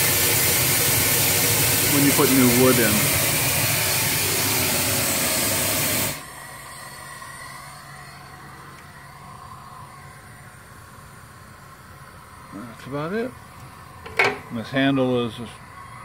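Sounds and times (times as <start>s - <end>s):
steam blower hissing: 0.0s - 14.8s.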